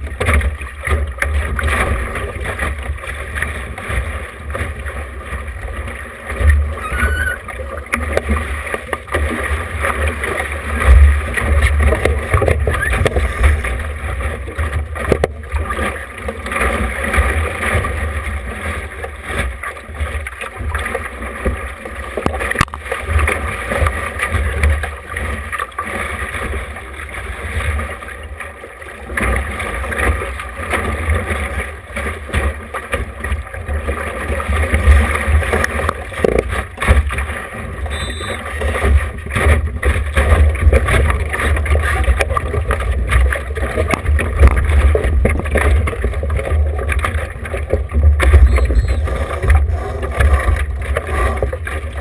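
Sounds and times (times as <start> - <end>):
water washing: 0.0 - 28.5, 29.2 - 52.0.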